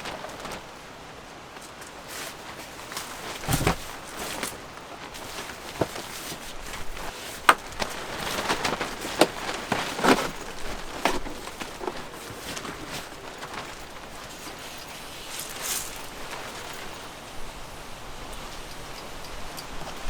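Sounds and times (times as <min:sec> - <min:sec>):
faint rustling: 0:00.0 - 0:19.0.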